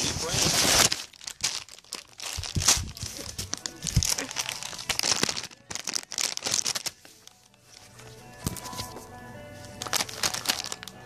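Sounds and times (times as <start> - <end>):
plastic pack crinkling: 0.0 - 11.0.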